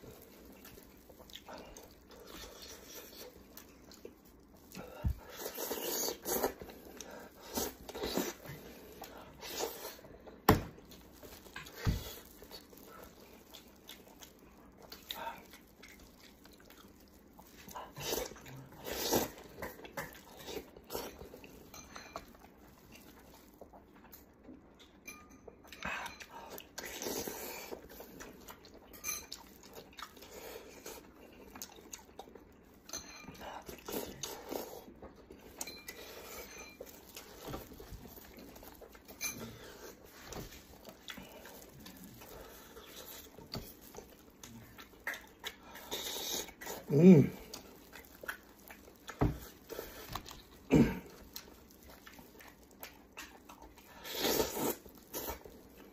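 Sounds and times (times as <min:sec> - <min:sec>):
wet chewing and biting: 0:00.0 - 0:25.0, 0:25.7 - 0:32.8, 0:33.5 - 0:55.9.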